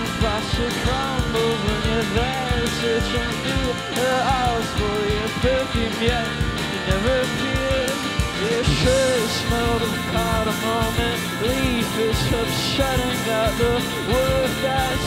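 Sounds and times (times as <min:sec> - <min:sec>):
bass guitar: 0:00.0 - 0:15.0
drum kit and cymbals: 0:00.0 - 0:15.0
electric guitar: 0:00.0 - 0:15.0
man singing: 0:00.0 - 0:15.0.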